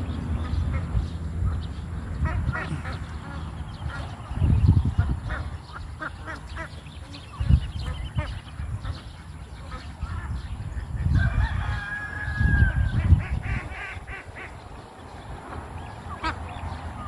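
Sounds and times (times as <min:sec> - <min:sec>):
wind buffeting microphone: 0:00.0 - 0:17.0
ducks quacking: 0:00.3 - 0:11.2, 0:12.9 - 0:17.0.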